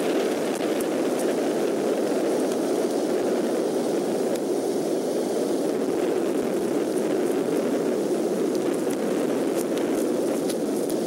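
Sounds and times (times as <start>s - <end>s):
faint ticks of raindrops: 0.0s - 4.5s, 6.3s - 11.0s
rain and wind rushing: 0.0s - 11.0s.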